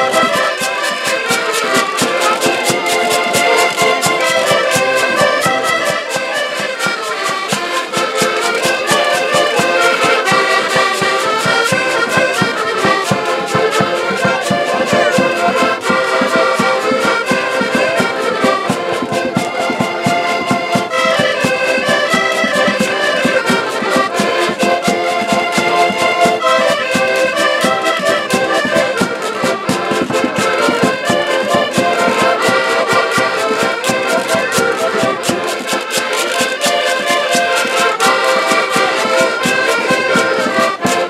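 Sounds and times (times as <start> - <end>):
accordions playing folk tune: 0.0 - 41.0.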